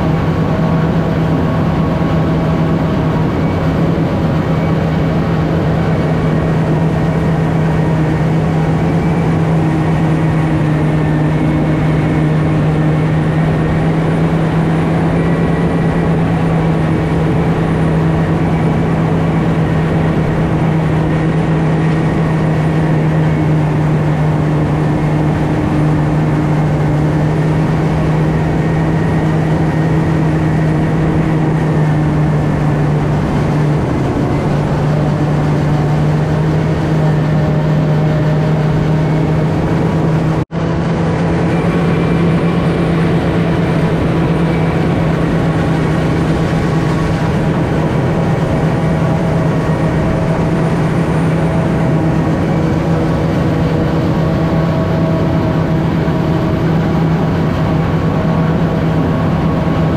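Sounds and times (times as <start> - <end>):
harvester engine hum: 0.0 - 59.9.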